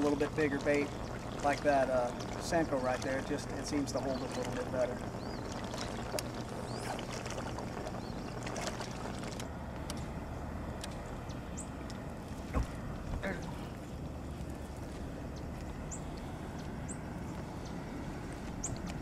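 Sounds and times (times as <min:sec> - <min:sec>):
boat motor humming: 0:00.0 - 0:19.0
water noise: 0:00.0 - 0:19.0.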